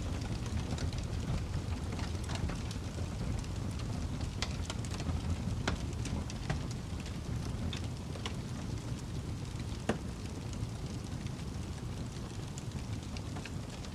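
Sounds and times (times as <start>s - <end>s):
wood fire crackling and popping: 0.0s - 13.9s.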